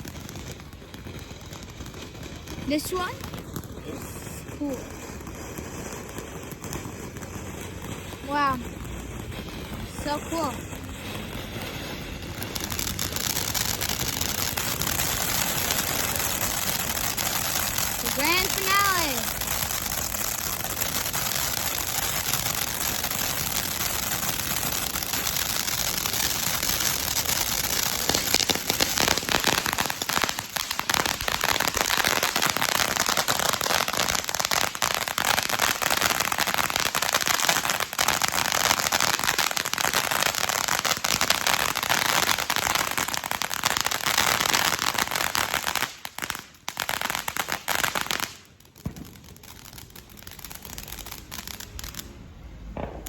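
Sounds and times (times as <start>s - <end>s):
firework hiss: 0.0s - 52.2s
firework crackling pops: 0.0s - 53.0s.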